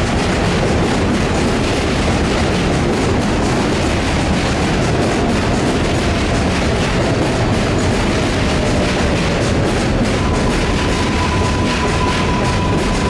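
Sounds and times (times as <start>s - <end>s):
subway train wheels rumbling on rail: 0.0s - 13.0s.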